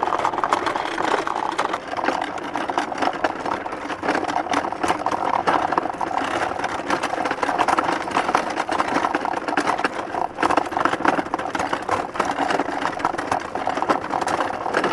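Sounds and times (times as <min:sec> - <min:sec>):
wooden cart rattling on dirt road: 0:00.0 - 0:14.9.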